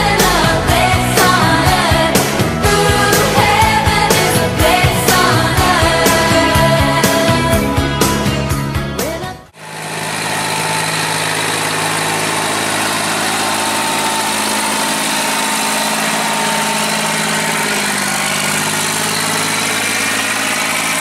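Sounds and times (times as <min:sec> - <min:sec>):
combine harvester engine running: 0:00.0 - 0:08.4, 0:09.5 - 0:21.0.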